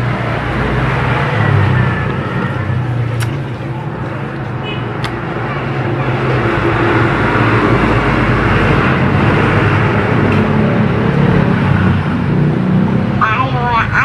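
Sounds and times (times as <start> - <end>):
loud steady rumbling: 0.0 - 14.0.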